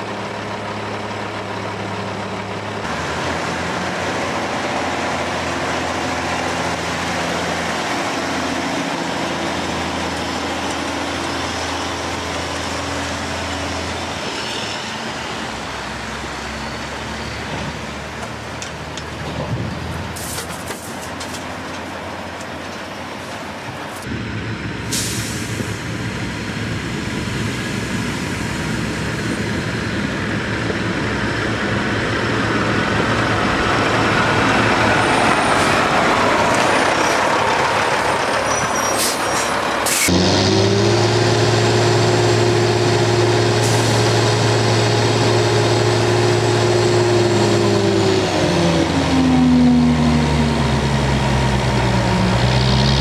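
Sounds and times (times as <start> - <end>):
heavy diesel truck engine: 0.0 - 53.0.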